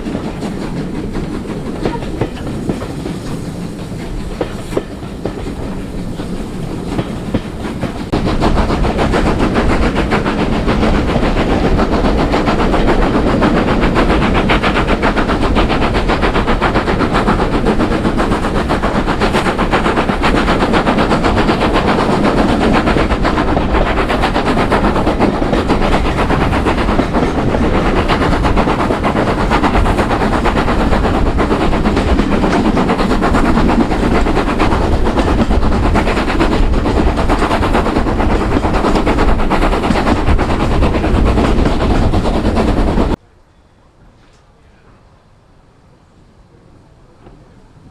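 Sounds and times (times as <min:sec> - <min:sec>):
steam train passing at speed: 0:00.0 - 0:47.9.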